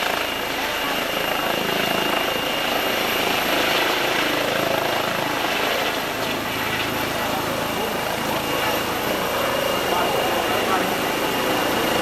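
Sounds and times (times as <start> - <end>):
helicopter rotor noise: 0.0 - 12.0
high turbine whine: 0.0 - 12.0.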